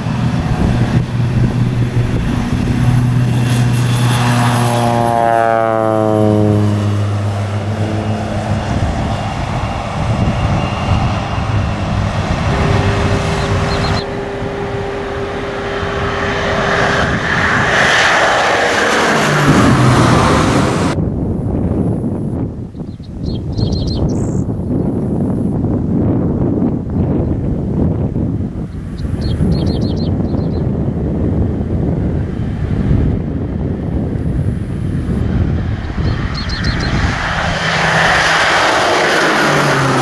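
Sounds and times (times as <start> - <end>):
propeller airplane flying past: 0.0 - 40.0.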